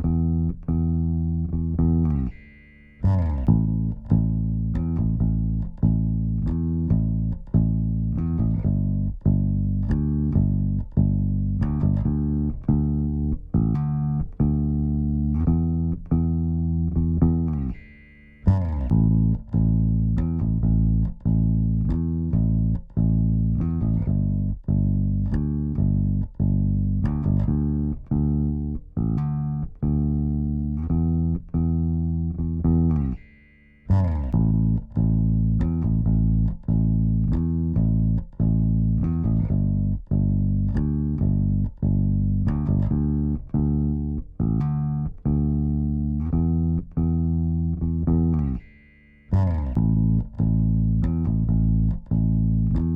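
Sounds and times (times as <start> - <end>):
bass guitar riff: 0.0 - 52.9.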